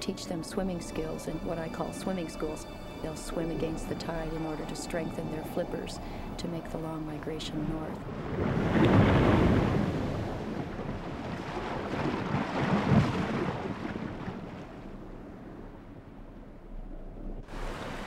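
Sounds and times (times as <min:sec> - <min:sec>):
water rushing and sloshing: 0:00.0 - 0:18.0.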